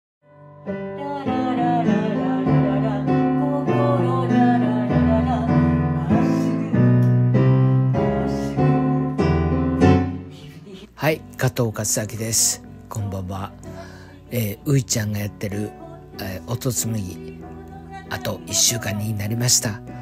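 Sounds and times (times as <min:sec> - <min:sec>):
piano chords: 0:00.2 - 0:20.0.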